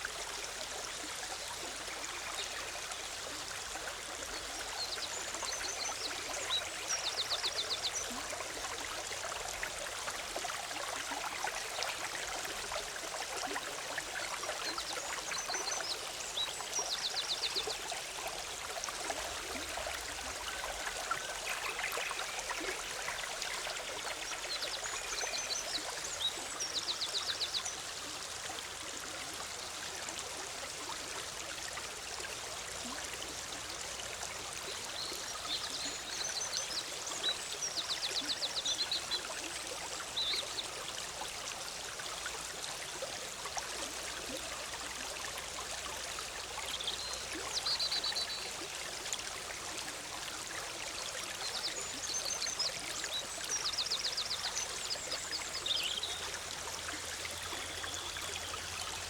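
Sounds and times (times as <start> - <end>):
forest stream babbling: 0.0 - 59.0.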